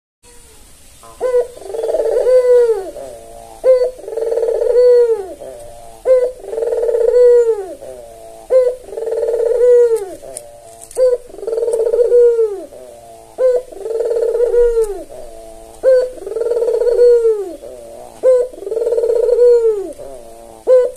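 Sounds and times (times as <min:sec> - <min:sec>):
dove cooing: 0:01.1 - 0:20.9.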